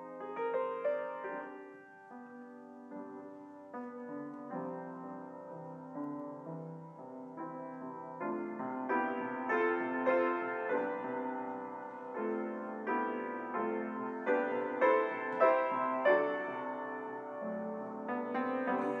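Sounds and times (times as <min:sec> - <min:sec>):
solo piano chords: 0:00.0 - 0:19.0.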